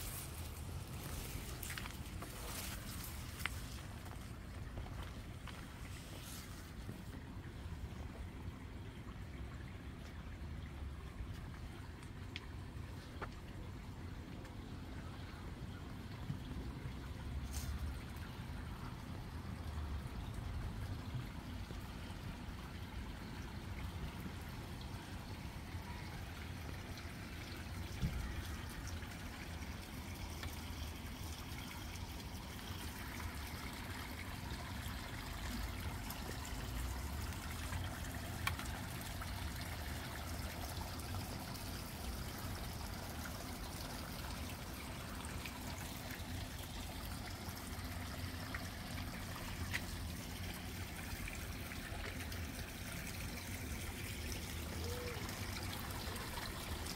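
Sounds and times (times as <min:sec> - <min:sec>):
water trickling into pond: 0:00.0 - 0:56.9.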